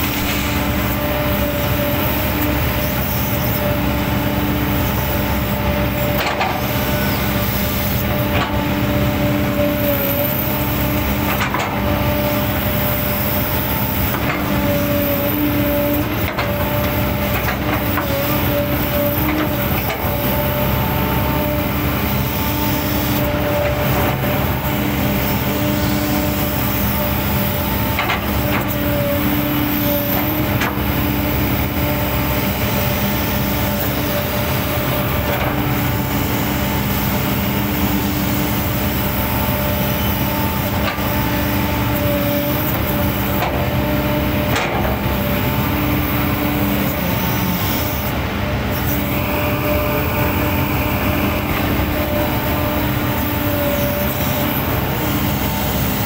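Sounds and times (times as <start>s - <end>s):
excavator engine running: 0.0s - 56.0s
hydraulic whine: 0.0s - 56.0s.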